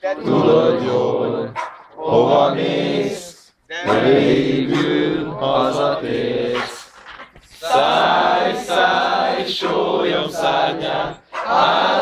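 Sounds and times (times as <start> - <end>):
men singing a cappella: 0.0 - 12.0.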